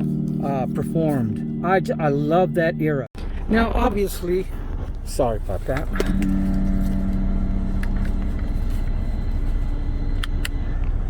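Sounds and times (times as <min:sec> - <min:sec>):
held low tone: 0:00.0 - 0:05.1, 0:05.7 - 0:11.0.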